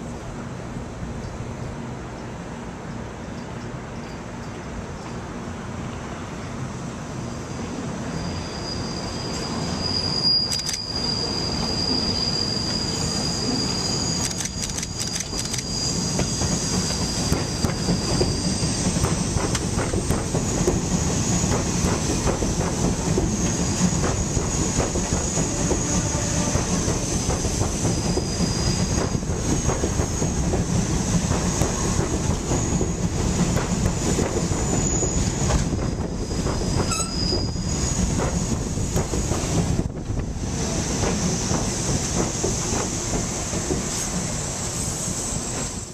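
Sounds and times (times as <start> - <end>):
wheels rumbling and clattering on rail: 0.0 - 45.9
train wheels squealing: 3.2 - 5.2, 5.9 - 45.9.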